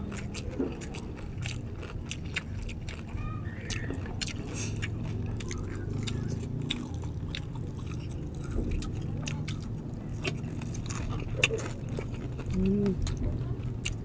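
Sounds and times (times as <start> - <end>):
crunchy food chewing: 0.0 - 14.0.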